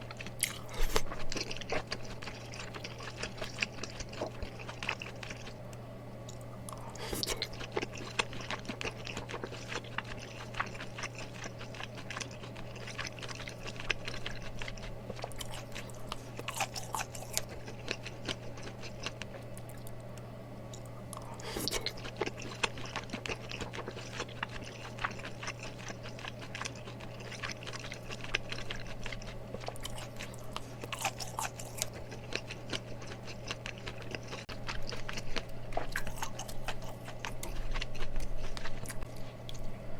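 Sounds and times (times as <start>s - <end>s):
person chewing: 0.0s - 39.8s
steady low hum: 0.0s - 39.9s.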